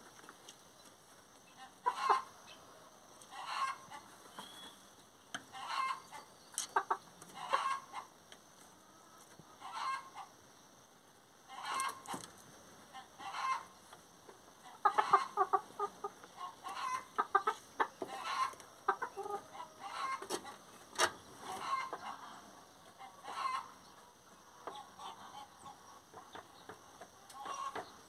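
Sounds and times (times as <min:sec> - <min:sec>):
chickens clucking: 0:00.0 - 0:10.8, 0:11.4 - 0:28.0.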